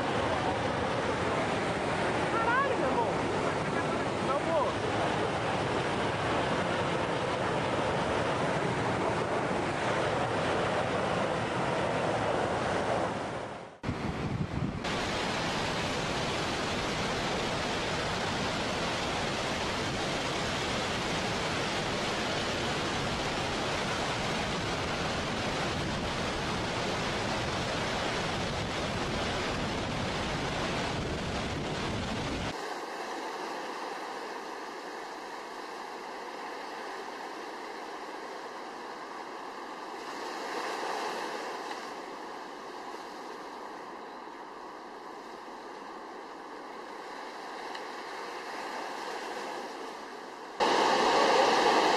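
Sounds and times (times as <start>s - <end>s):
water rushing off a dam: 0.0s - 43.9s, 44.7s - 51.9s.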